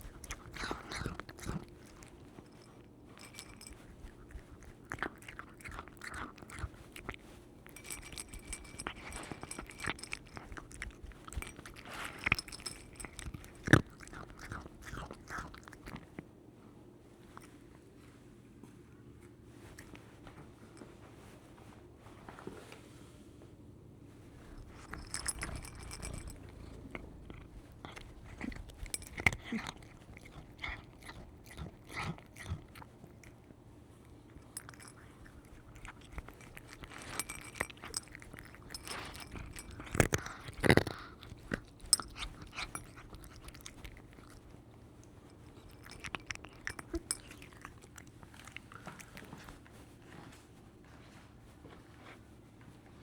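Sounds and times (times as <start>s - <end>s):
cat chewing food: 0.0s - 20.8s, 24.2s - 51.2s.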